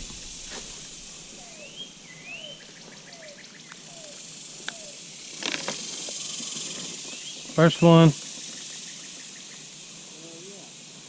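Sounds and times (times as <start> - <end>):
birds chirping: 0.0 - 10.1
steady high hiss: 0.0 - 11.0.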